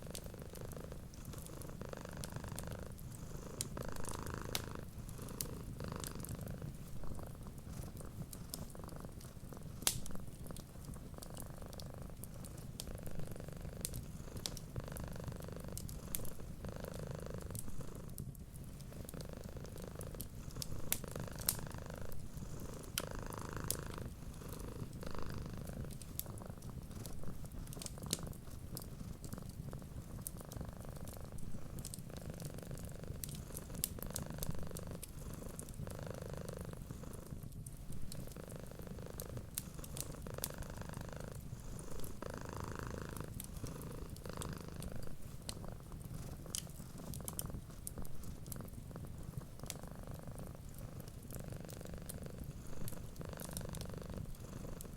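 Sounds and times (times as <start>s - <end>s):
wood fire popping and crackling: 0.0s - 36.0s, 36.7s - 54.9s
cat purring: 0.0s - 54.9s.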